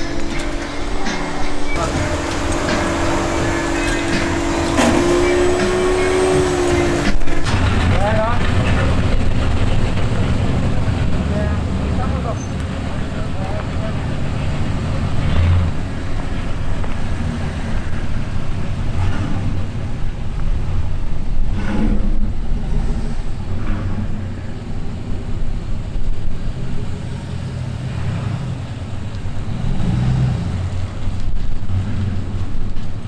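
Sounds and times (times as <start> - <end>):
vehicle engine revving: 0.0 - 19.8, 24.9 - 32.9.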